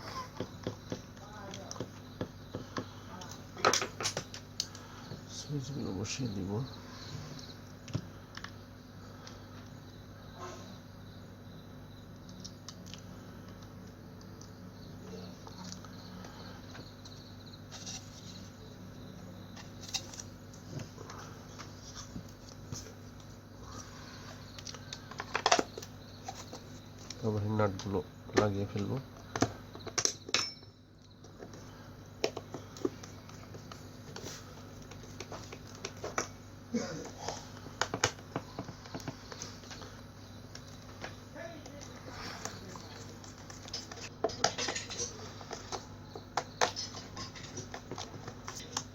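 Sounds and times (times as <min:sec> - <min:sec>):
low electrical hum: 0:00.0 - 0:48.9.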